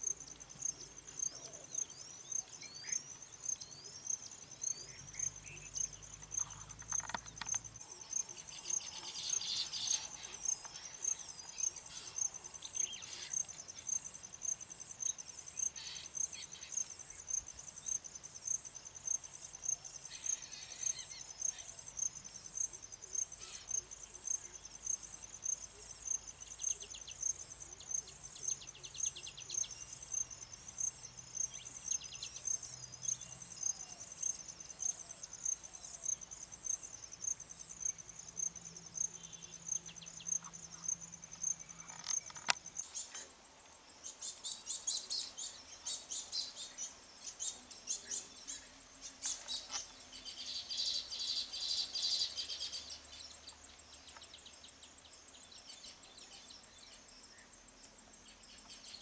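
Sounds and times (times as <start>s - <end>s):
bird calls and trills: 0.0s - 18.0s, 19.6s - 59.0s
insect chirping: 0.0s - 59.0s.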